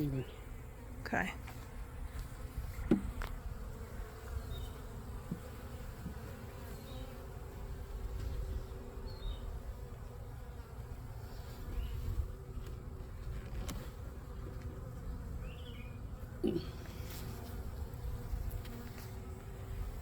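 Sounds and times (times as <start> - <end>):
honey bees buzzing: 0.0 - 20.0.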